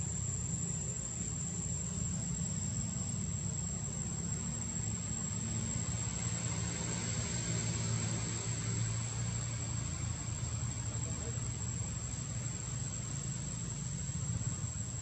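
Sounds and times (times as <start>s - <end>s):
insects droning: 0.0s - 15.0s
low steady rumble: 0.0s - 15.0s.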